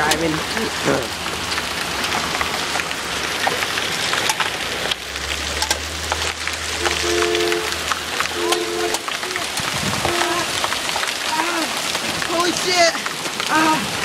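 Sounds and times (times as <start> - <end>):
hail pelting down: 0.0 - 14.0.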